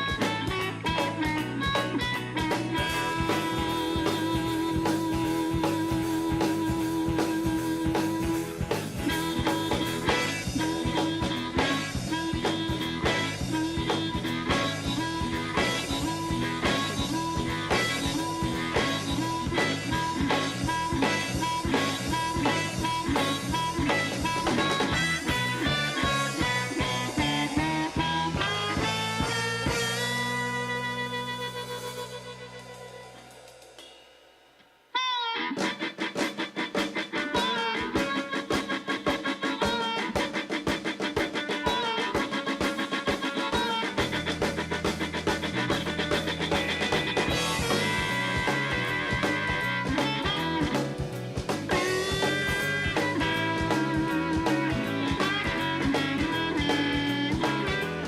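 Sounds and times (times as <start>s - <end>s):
blues guitar: 0.0s - 34.2s, 34.9s - 58.0s
steady drum beat: 0.0s - 34.5s, 35.6s - 58.0s.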